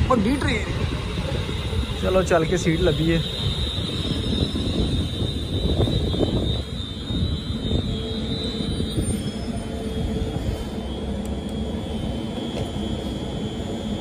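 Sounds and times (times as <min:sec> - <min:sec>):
high steady tone: 0:00.0 - 0:14.0
train equipment rumbling: 0:00.0 - 0:14.0.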